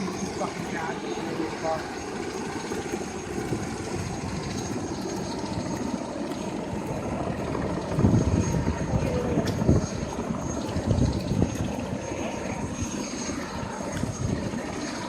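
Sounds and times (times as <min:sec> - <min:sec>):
helicopter turbine and rotor noise: 0:00.0 - 0:15.0.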